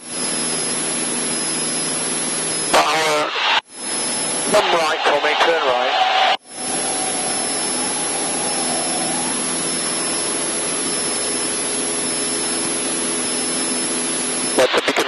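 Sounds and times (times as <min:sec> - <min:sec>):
airplane engine and propeller droning: 0:00.0 - 0:15.0.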